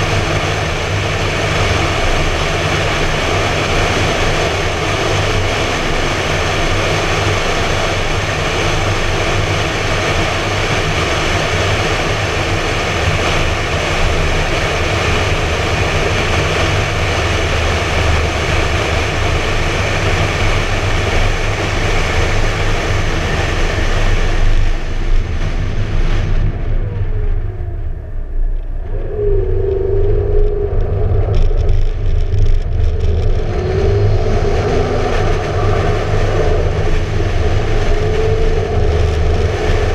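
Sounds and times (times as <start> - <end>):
car engine rumble: 0.0 - 39.9
wind rushing over camera: 0.0 - 39.9.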